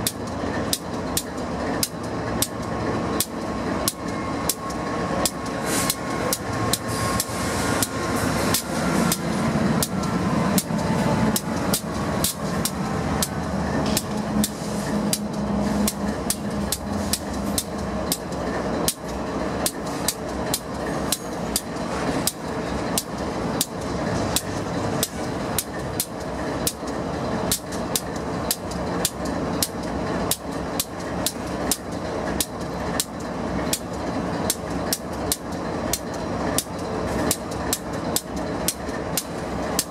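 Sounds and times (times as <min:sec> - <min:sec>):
locomotive engines droning: 0:00.0 - 0:39.9
train wheels clicking over rail joints: 0:00.0 - 0:39.9.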